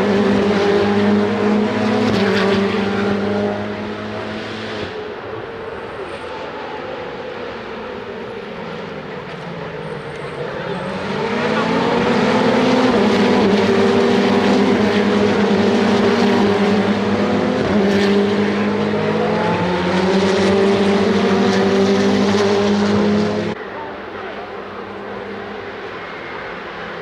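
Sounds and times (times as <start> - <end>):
race car engines at speed: 0.0 - 27.0.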